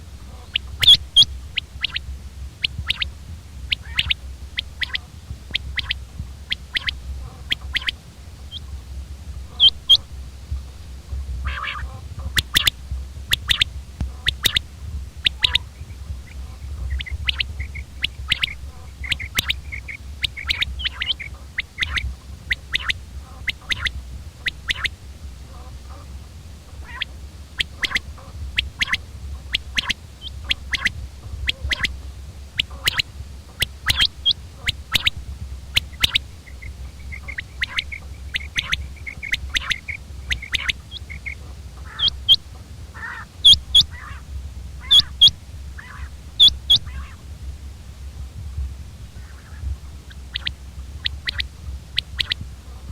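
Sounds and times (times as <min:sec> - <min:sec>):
quail calling: 0:00.0 - 0:47.3, 0:49.0 - 0:52.9
steady low hum: 0:00.0 - 0:52.9.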